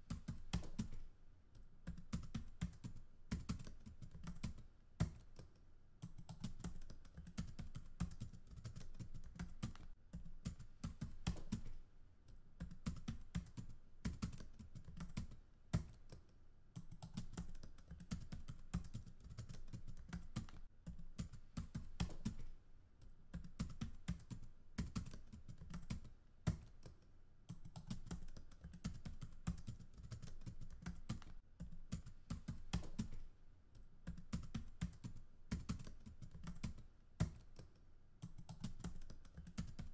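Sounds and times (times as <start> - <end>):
computer keyboard typing: 0.1 - 1.0, 1.8 - 11.8, 12.6 - 33.2, 34.0 - 39.9.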